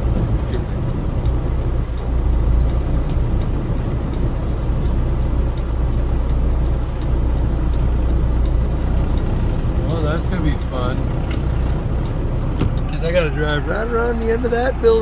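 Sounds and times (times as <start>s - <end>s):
truck diesel engine hum: 0.0s - 15.0s.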